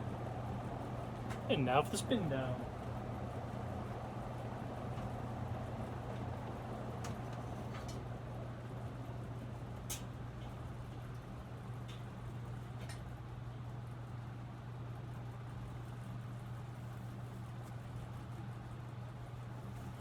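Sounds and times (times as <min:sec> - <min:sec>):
ceiling fan air rush: 0:00.0 - 0:20.0
low steady hum: 0:00.0 - 0:20.0.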